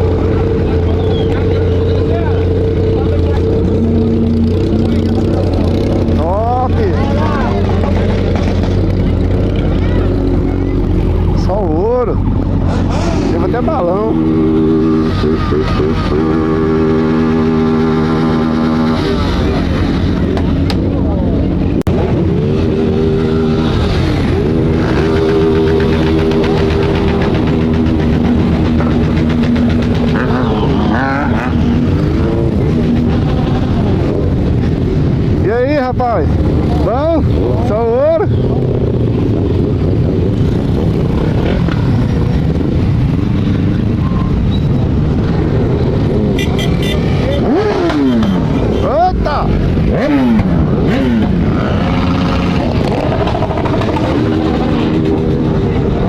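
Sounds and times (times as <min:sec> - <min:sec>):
motorcycles rumbling: 0:00.0 - 0:56.0.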